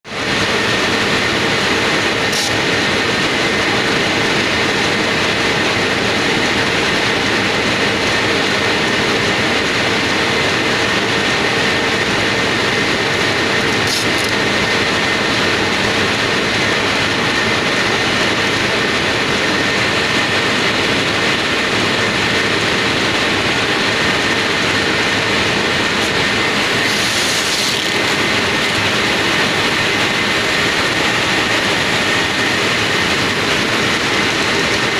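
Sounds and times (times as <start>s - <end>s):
factory machinery running: 0.0s - 34.9s.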